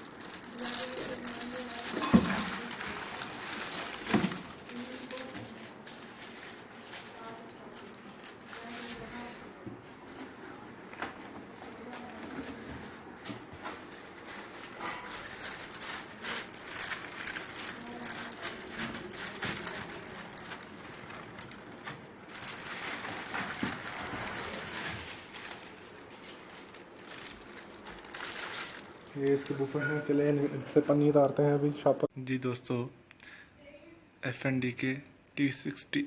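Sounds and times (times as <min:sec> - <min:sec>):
plastic packaging crinkling: 0:00.0 - 0:30.4.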